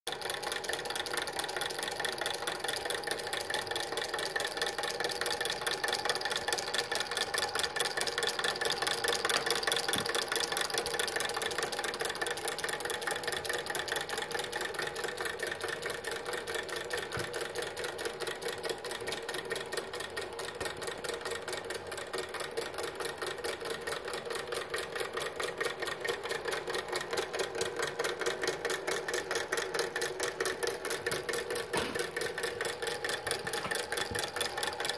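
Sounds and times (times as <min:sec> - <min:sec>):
miniature piston engine clattering: 0:00.1 - 0:34.9.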